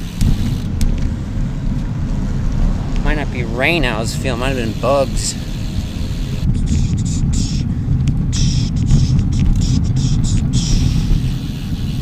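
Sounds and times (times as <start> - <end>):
bicycle road noise rumble: 0.0 - 12.0
wind buffeting microphone: 0.0 - 12.0.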